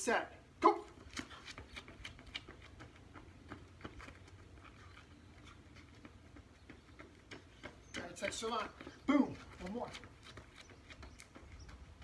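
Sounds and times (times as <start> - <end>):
running footsteps on concrete: 0.6 - 12.0.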